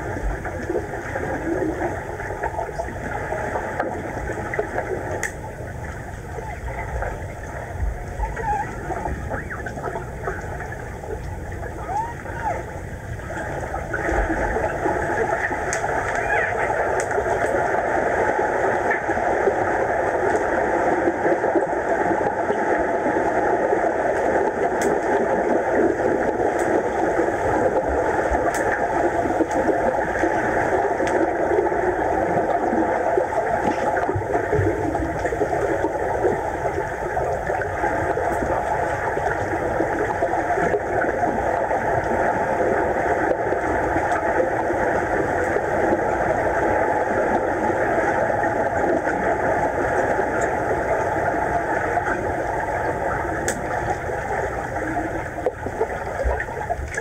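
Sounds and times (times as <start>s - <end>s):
muffled underwater noise: 0.0s - 57.0s.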